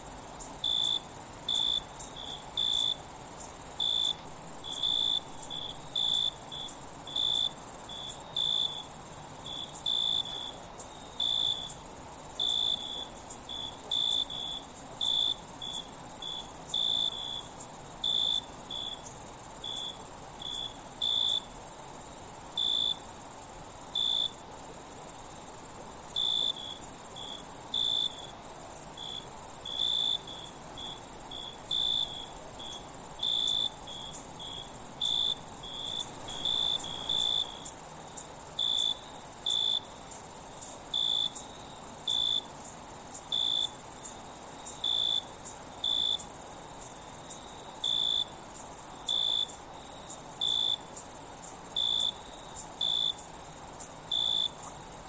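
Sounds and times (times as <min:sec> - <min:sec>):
cricket chirping: 0:00.0 - 0:55.0
insects high-pitched trill: 0:00.0 - 0:55.0.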